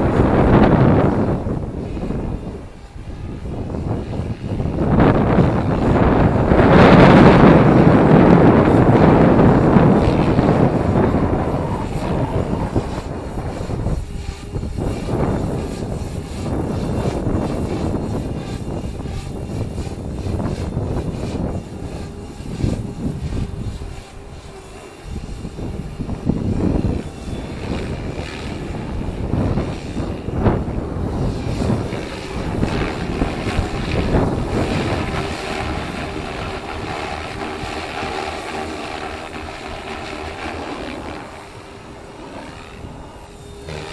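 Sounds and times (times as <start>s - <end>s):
gusty wind buffeting microphone: 0.0s - 43.9s
model helicopter rotor and motor: 0.0s - 43.9s.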